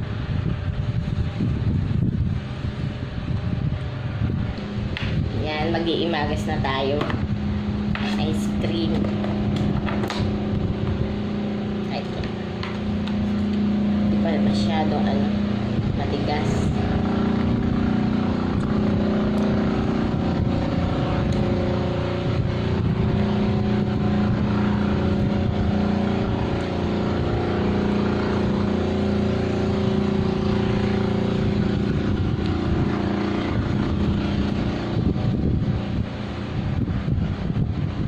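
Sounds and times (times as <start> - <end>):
mechanical drone with low hum: 0.0 - 38.0.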